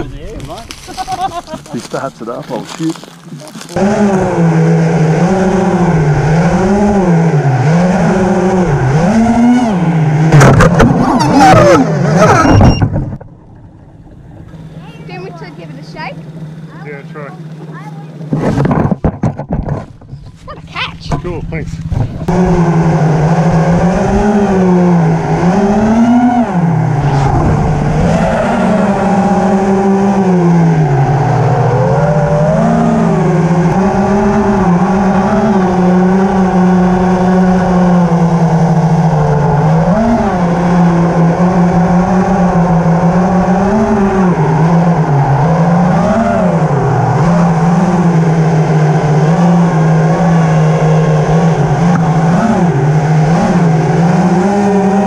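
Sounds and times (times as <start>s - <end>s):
drone propellers buzzing: 3.1s - 19.0s, 20.9s - 55.0s.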